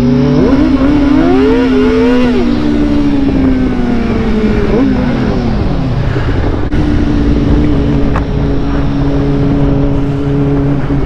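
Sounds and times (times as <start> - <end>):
vehicle engine humming: 0.0 - 11.0
wind rumble on microphone: 0.0 - 11.0.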